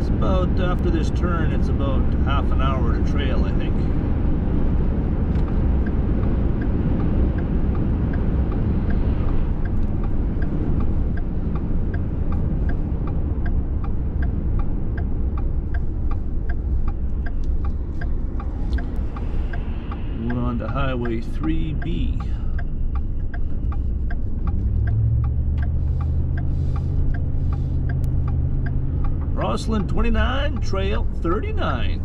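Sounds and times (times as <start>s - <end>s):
engine and tyre rumble: 0.0s - 32.0s
turn signal ticking: 0.0s - 32.0s.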